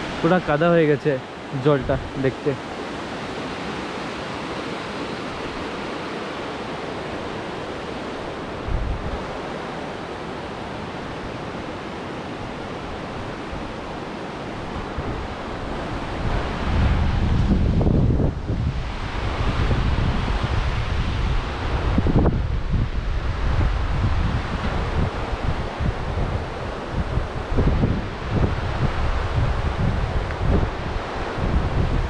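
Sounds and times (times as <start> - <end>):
river rushing: 0.0 - 32.0
wind buffeting microphone: 1.7 - 32.0.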